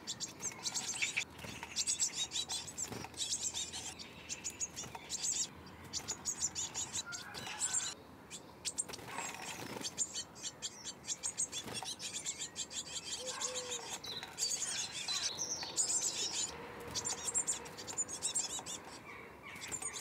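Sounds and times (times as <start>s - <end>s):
birds chirping high-pitched: 0.0s - 20.0s.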